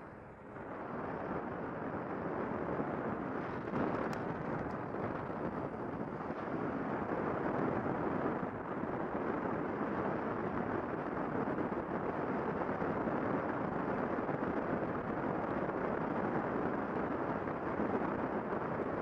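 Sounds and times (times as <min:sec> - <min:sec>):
motorcycle road noise: 0:00.0 - 0:19.0.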